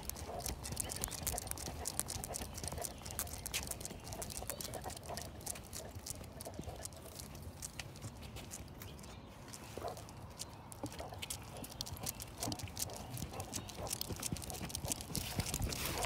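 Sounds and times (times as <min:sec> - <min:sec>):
dog claws clicking on concrete: 0:00.0 - 0:16.0.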